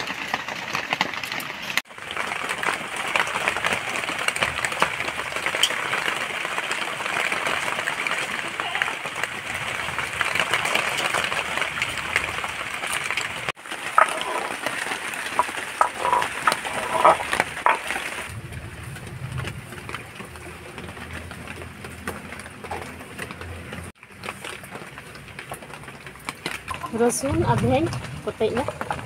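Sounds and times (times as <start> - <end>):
rain dripping from roof: 0.0 - 29.0.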